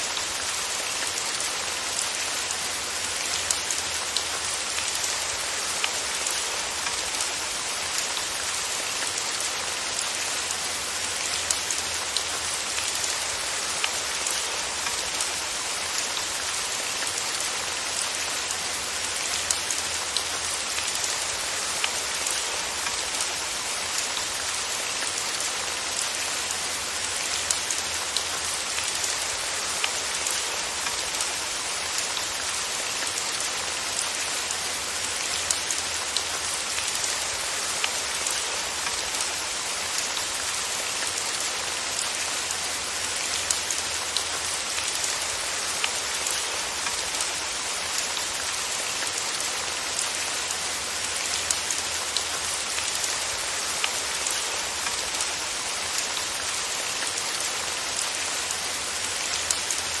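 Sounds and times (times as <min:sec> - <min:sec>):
steady rain hiss: 0:00.0 - 1:00.0.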